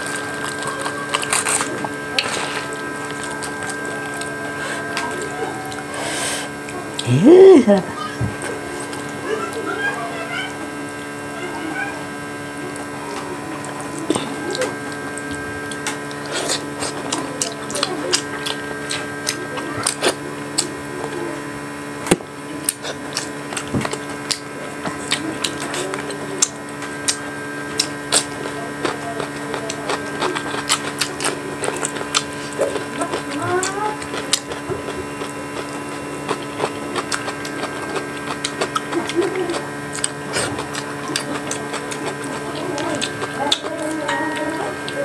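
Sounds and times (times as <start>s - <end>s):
person chewing and lip-smacking: 0.0s - 9.7s, 12.7s - 21.2s, 22.5s - 45.0s
steady electrical hum: 0.0s - 45.0s.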